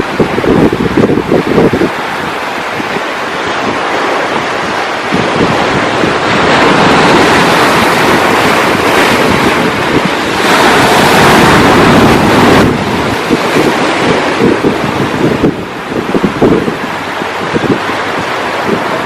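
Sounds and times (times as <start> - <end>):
ocean waves breaking on shore: 0.0 - 19.0
wind buffeting microphone: 0.0 - 19.0.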